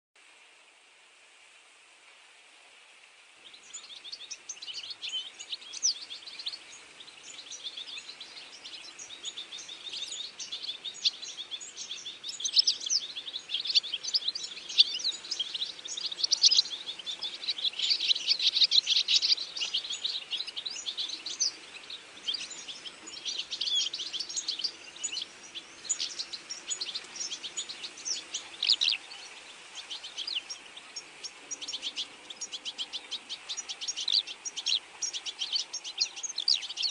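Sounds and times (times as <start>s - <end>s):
birds chirping and trilling: 3.4s - 36.9s.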